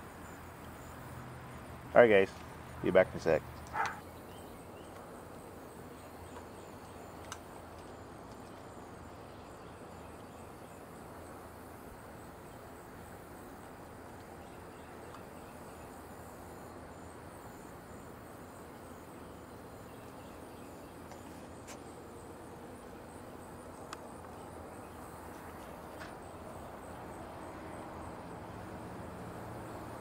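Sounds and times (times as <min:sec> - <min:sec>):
crickets chirping faintly: 0:00.0 - 0:30.0.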